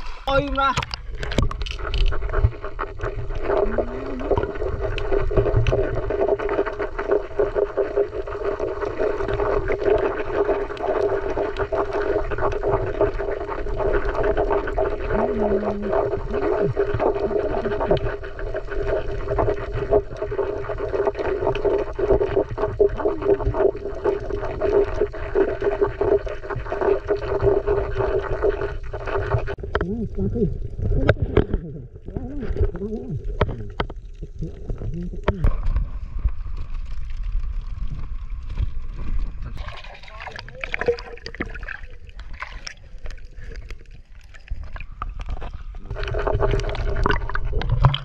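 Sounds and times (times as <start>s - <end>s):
low underwater rumble: 0.0s - 48.0s
underwater hum: 0.0s - 48.0s.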